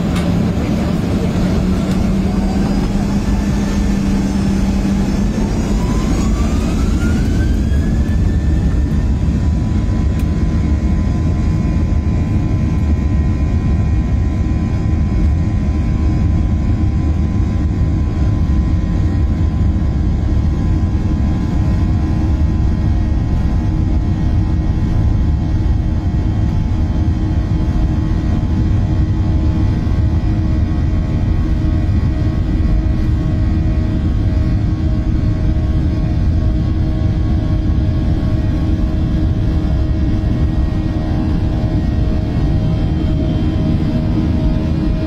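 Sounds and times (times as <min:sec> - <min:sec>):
jet engines whining: 0:00.0 - 0:45.0.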